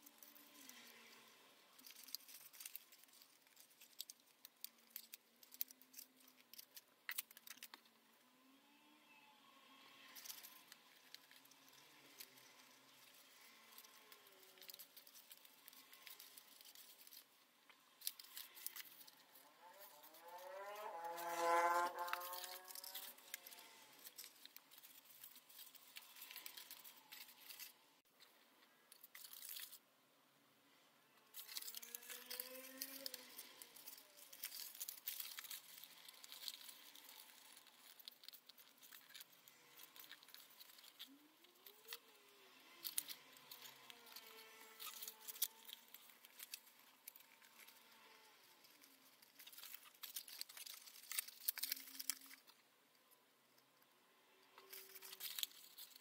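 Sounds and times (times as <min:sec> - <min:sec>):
paper rustling and crinkling: 0:00.0 - 0:07.9, 0:10.0 - 0:29.8, 0:31.3 - 0:52.6, 0:54.6 - 0:56.0.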